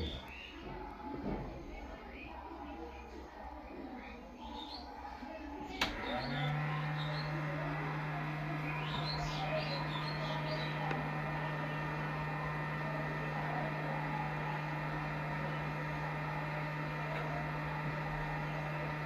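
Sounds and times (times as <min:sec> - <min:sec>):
hot-air station humming: 0:00.0 - 0:19.0.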